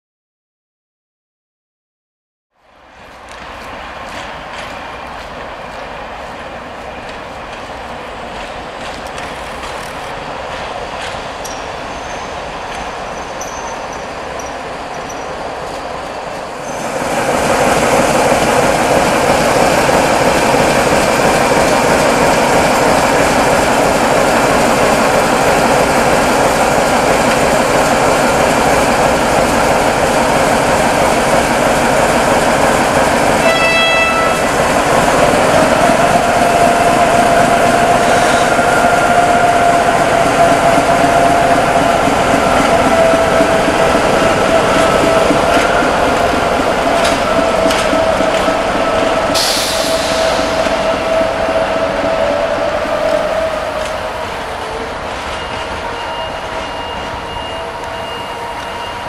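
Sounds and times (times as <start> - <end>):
diesel locomotive running: 2.6 - 59.0.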